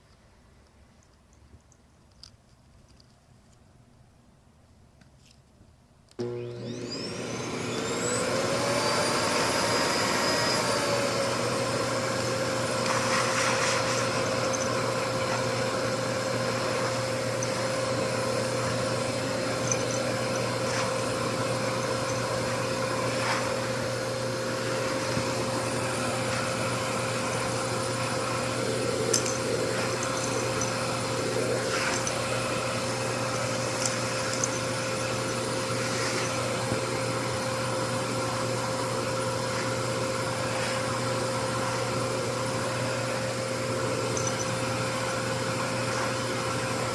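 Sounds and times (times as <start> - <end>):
vacuum cleaner motor whine: 6.2 - 46.9.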